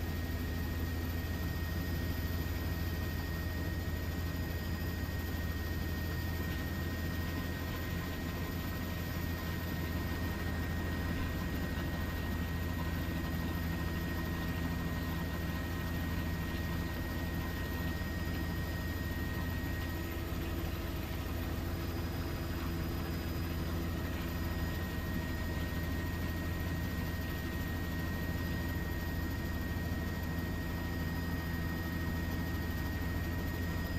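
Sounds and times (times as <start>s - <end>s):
aircraft engine drone: 0.0s - 33.9s.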